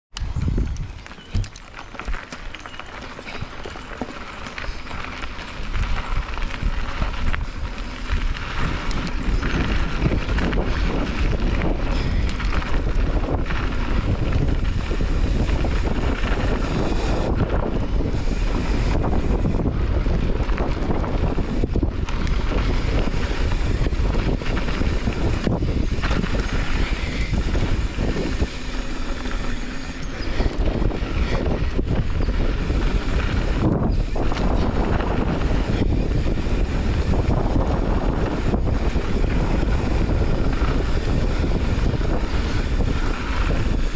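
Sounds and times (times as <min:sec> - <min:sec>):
wind buffeting microphone: 0:00.1 - 0:43.9
bike tyres rumbling on dirt: 0:00.2 - 0:43.9.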